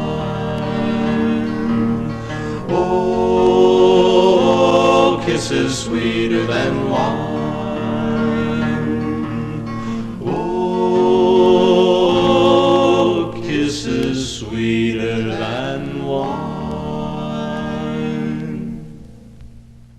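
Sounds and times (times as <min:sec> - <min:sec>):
vocal group singing in harmony: 0:00.0 - 0:19.0.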